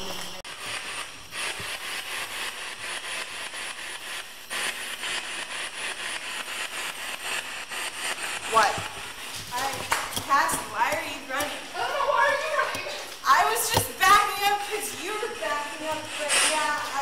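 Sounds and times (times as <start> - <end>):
chopped radio static hiss: 0.0 - 17.0.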